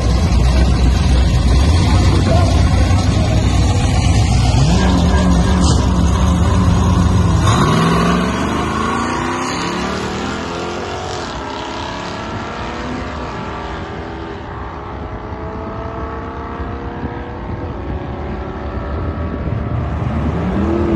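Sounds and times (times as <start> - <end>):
car engine accelerating hard: 0.0 - 20.9.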